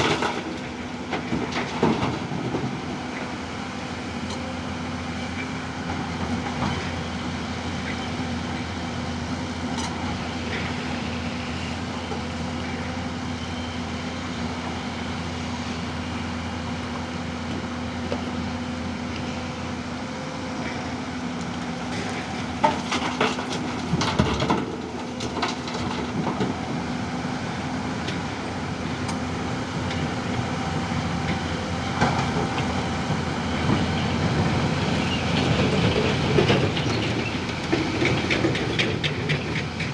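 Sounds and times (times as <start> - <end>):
digger diesel engine running: 0.0 - 39.9.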